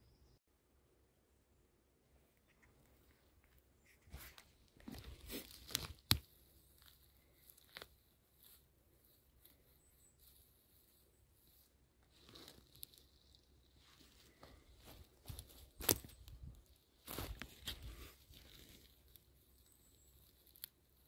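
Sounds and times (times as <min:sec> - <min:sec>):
twigs and litter crackling and snapping: 0:03.4 - 0:21.0.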